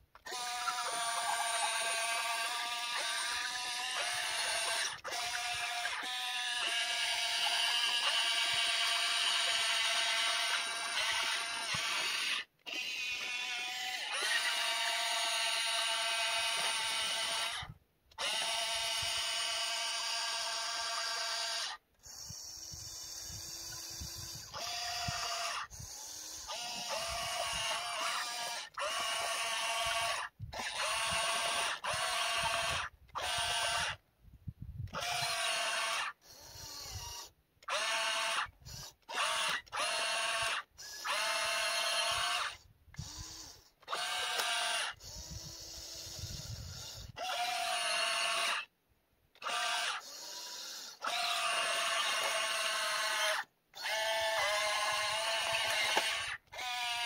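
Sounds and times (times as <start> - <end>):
electric motors whining: 0.2 - 34.0, 34.9 - 48.7, 49.3 - 57.0.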